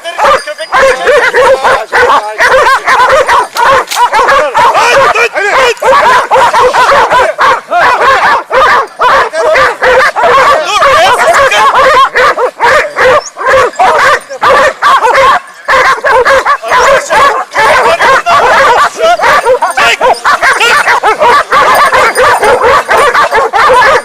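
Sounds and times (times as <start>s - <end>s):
hounds barking and yelping: 0.0s - 24.0s.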